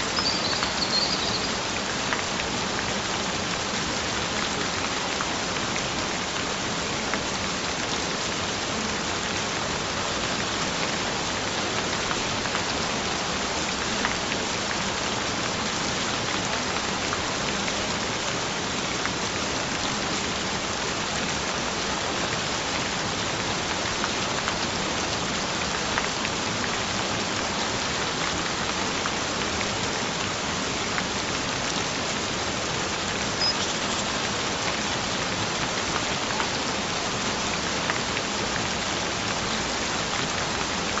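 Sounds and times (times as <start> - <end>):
gentle rain falling: 0.0 - 41.0.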